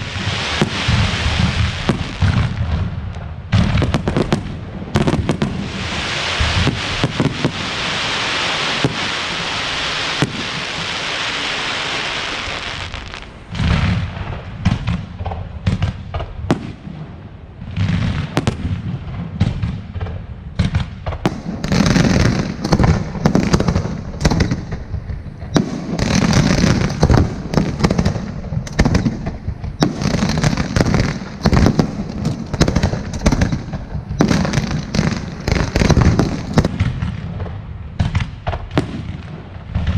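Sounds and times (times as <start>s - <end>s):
fireworks crackling hiss: 0.0s - 15.4s, 20.8s - 39.9s
fireworks bangs and booms: 0.0s - 39.9s.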